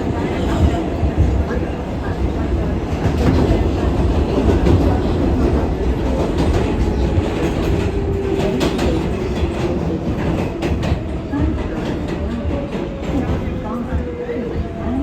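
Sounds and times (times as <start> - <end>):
clacks at rail joints: 0.0 - 15.0
steel wheels rumbling on rail: 0.0 - 15.0.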